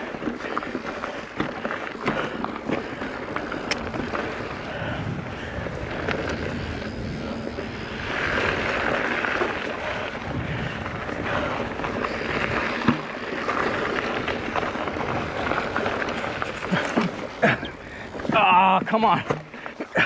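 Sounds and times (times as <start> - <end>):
bike clicks and rattles: 0.0 - 20.0
tyre and wind noise: 0.0 - 20.0.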